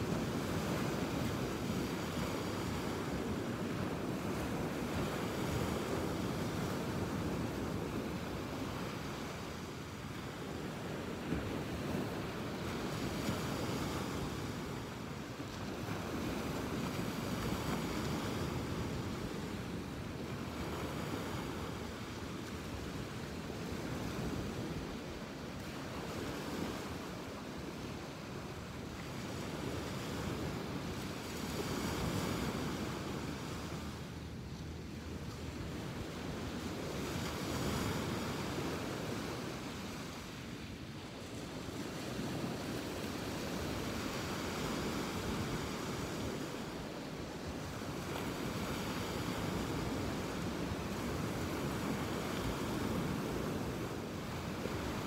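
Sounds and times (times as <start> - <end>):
ocean surf washing onto beach: 0.0 - 55.0
wind rumbling on microphone: 0.0 - 55.0.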